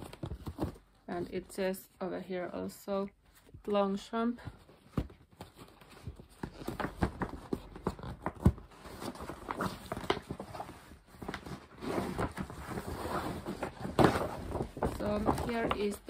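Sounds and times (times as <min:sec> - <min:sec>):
paper rustling and crinkling: 0:00.0 - 0:01.4, 0:04.5 - 0:16.0.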